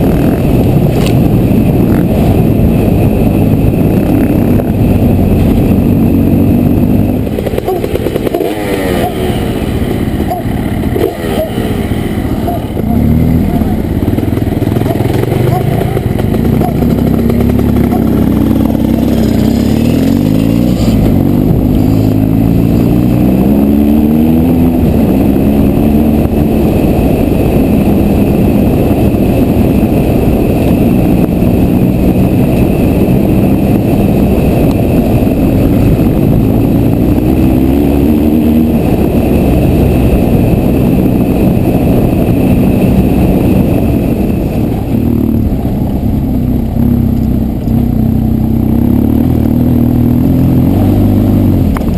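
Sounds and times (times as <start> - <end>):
motorcycle engine shifting gears: 0.0 - 51.9
wind and road rush: 0.0 - 51.9.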